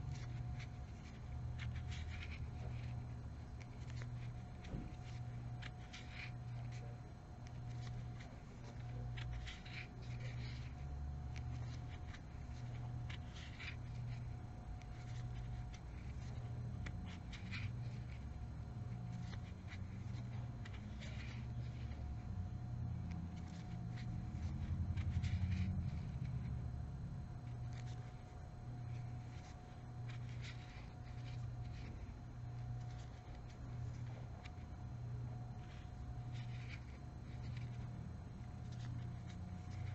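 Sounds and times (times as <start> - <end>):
crochet hook scratches and ticks: 0.0 - 39.9
pulsing low hum: 0.0 - 39.9.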